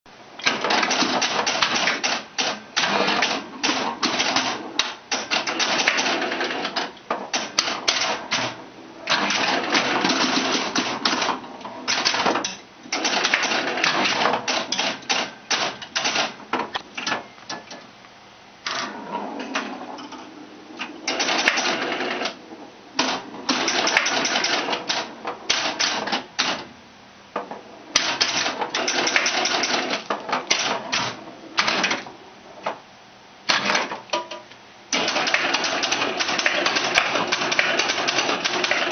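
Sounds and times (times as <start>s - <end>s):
pinball machine relays clattering: 0.4s - 17.9s, 18.7s - 22.4s, 23.0s - 26.7s, 27.4s - 32.8s, 33.5s - 38.9s.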